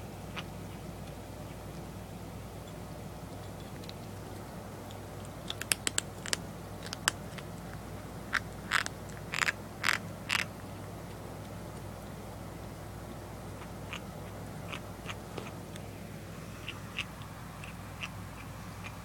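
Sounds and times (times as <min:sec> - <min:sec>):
kitten crunching and chewing: 0:00.0 - 0:19.0
kitten eating clicks and smacks: 0:00.2 - 0:15.9, 0:16.5 - 0:19.0.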